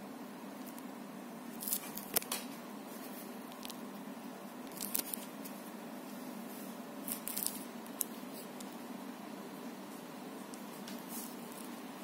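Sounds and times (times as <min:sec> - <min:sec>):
air conditioner fan hush: 0:00.0 - 0:12.0.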